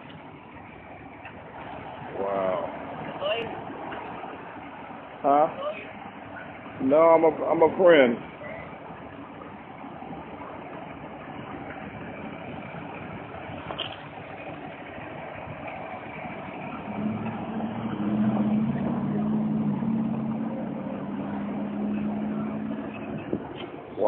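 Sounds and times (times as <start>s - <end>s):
street traffic noise: 0.0s - 24.0s
vehicle engine hum: 0.0s - 24.0s.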